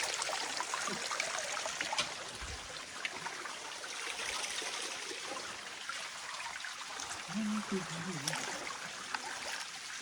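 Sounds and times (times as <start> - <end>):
small water splashes: 0.0 - 10.0
stream water running: 0.0 - 10.0.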